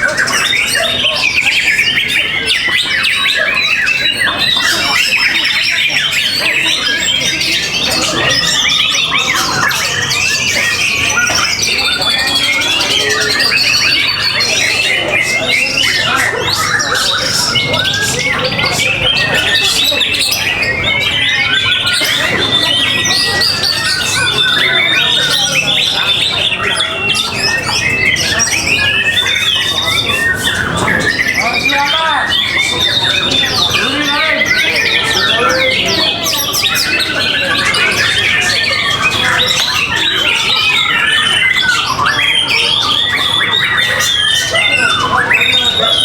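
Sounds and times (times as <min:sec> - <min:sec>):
songbirds chorus: 0:00.0 - 0:46.0.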